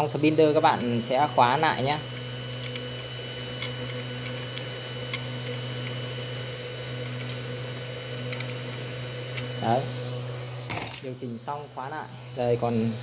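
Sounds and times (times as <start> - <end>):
router spindle motor running: 0.0 - 10.7.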